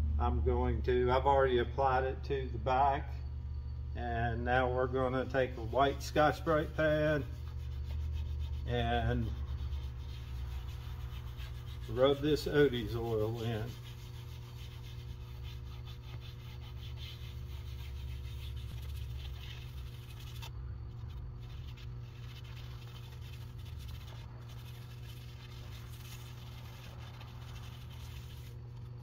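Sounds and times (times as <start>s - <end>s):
low hum: 0.0s - 29.0s
scouring pad rubbing wood: 4.9s - 29.0s.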